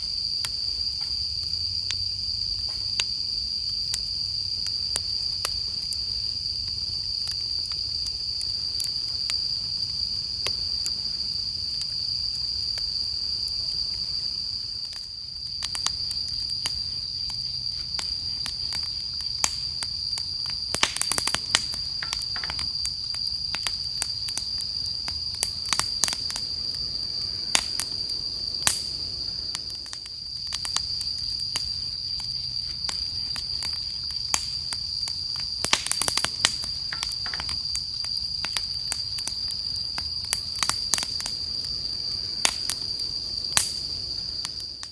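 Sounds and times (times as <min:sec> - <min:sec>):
campfire crackling and popping: 0:00.0 - 0:44.9
insects trilling: 0:00.0 - 0:44.9.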